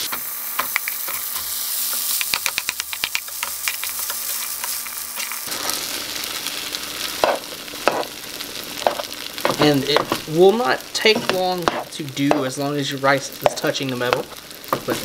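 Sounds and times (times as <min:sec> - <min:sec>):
food sizzling in a skillet: 0:00.0 - 0:15.0.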